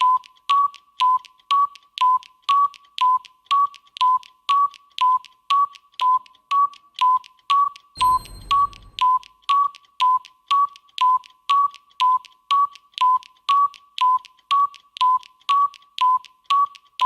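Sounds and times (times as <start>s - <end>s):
timer tick-tock beeps: 0.0s - 17.0s.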